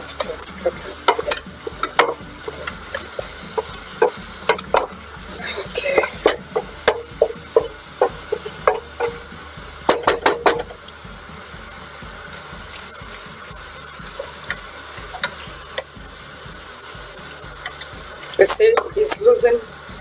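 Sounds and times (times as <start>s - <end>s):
mince sizzling: 0.0s - 20.0s.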